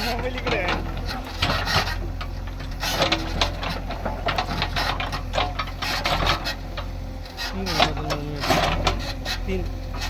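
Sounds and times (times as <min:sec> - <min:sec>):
digger engine low rumble: 0:00.0 - 0:10.0.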